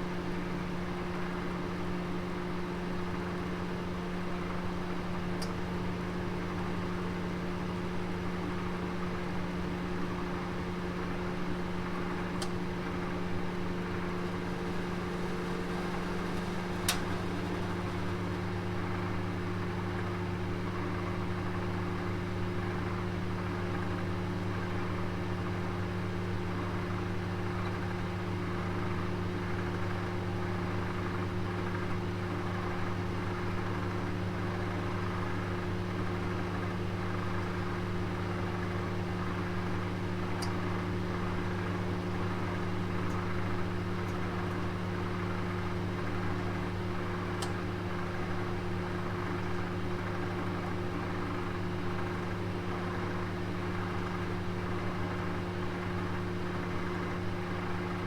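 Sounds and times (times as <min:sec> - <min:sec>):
oven fan motor humming: 0:00.0 - 0:58.0.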